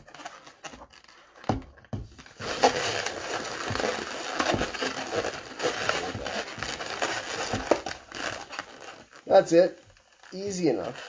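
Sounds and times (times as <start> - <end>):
balloons rubbing and crinkling: 0.0 - 11.0.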